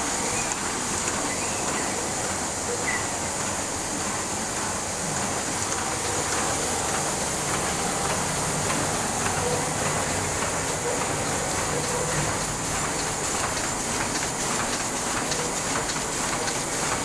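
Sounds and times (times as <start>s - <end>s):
printing press running: 0.0s - 17.0s.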